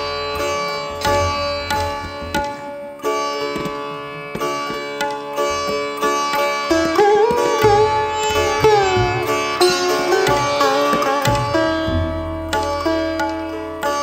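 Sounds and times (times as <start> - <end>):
plucked string instrument melody: 0.0 - 14.0
tabla strokes: 0.0 - 14.0.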